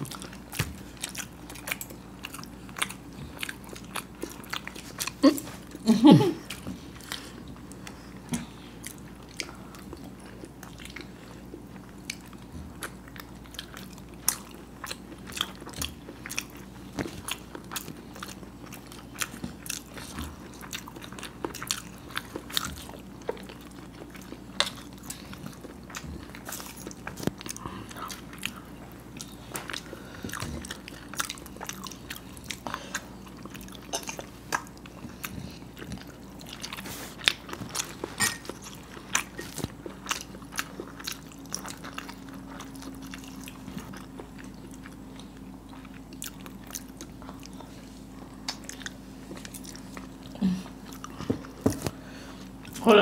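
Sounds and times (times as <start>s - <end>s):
wet chewing and biting: 0.0s - 5.8s, 6.4s - 52.9s.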